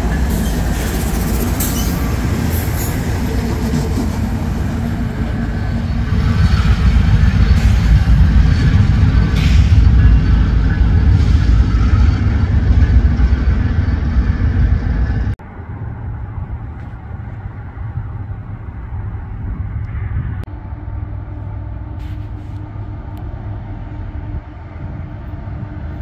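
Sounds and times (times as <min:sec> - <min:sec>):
diesel locomotives rumbling: 0:00.0 - 0:26.0
distant freight train rumble: 0:00.0 - 0:26.0.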